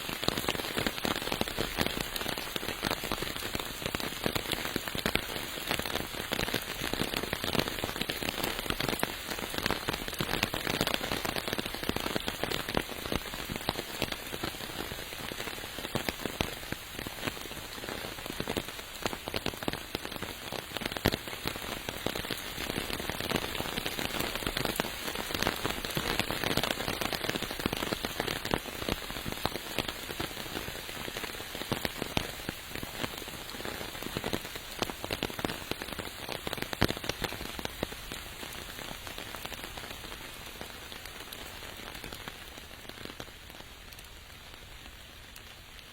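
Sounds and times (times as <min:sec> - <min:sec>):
steady rain patter: 0:00.0 - 0:45.9.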